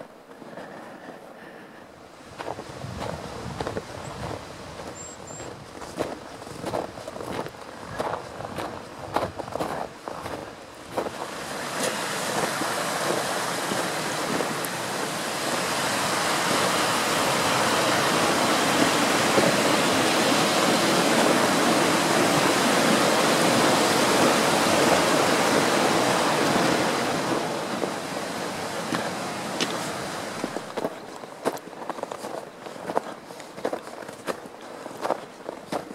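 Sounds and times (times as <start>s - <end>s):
mountain stream rushing: 2.0s - 35.9s.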